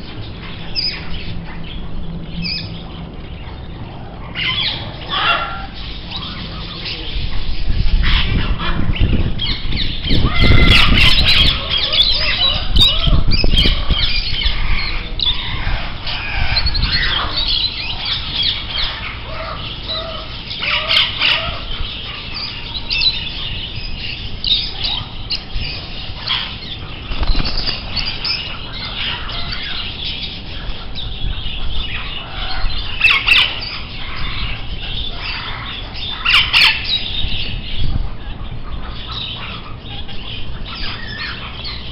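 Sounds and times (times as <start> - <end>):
birds chirping and squawking: 0.0 - 41.9.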